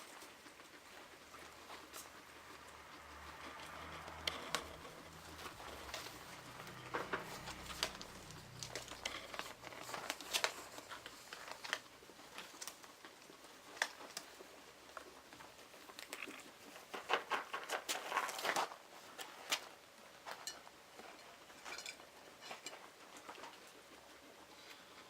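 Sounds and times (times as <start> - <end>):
rustling and crinkling bedding: 0.0 - 25.0.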